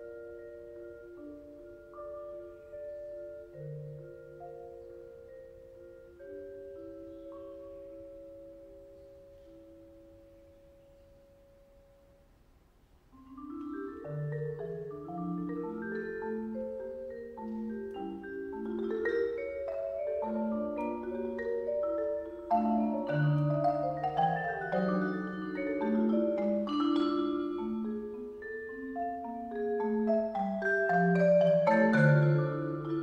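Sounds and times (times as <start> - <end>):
ringing vibraphone tones: 0.0 - 12.0, 13.1 - 33.0
marimba mallet notes: 0.0 - 12.2, 13.1 - 33.0.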